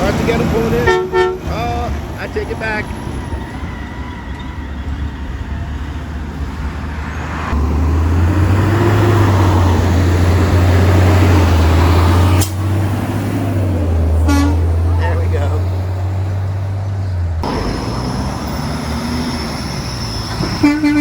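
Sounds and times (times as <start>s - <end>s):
garbage truck engine rumbling: 0.0s - 21.0s.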